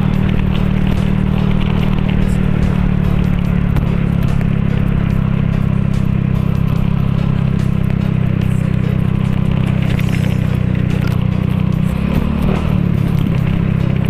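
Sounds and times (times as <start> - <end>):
road and wind noise: 0.0 - 14.0
scooter engine running: 0.0 - 14.0.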